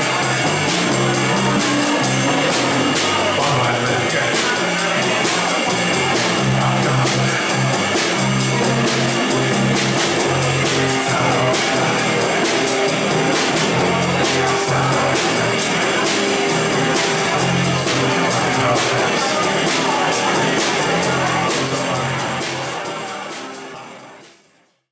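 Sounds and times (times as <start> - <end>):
electric bass line: 0.0 - 23.4
electric guitar: 0.0 - 24.1
drum kit beat: 0.0 - 24.3.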